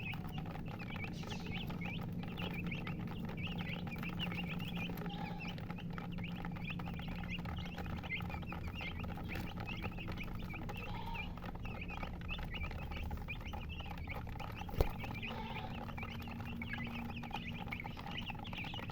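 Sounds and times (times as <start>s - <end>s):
chicks peeping: 0.0s - 18.9s.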